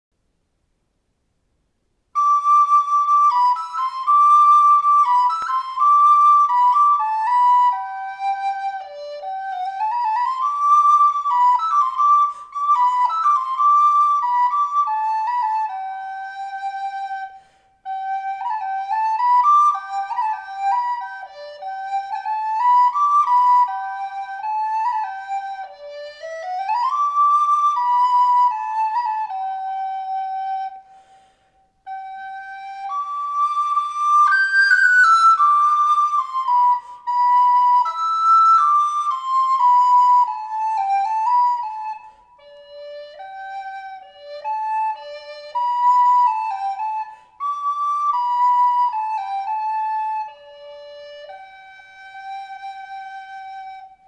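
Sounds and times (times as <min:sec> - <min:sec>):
solo wooden flute melody: 0:02.1 - 0:54.0.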